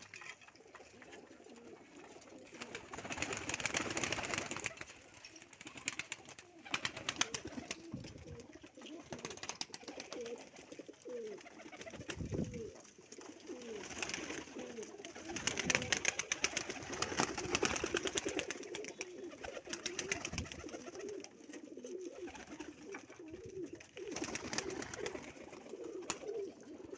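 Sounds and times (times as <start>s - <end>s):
pigeons cooing: 0.0s - 26.9s.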